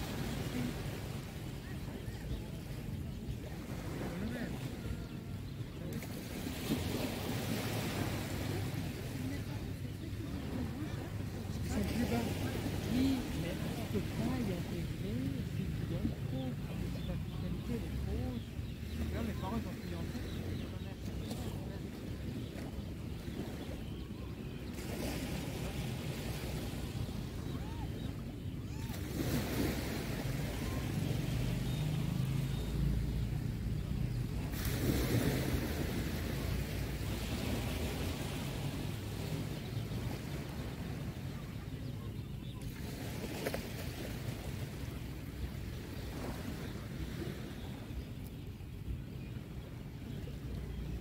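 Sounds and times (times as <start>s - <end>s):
boat engine hum: 0.0s - 51.0s
small waves washing on sand: 0.0s - 51.0s.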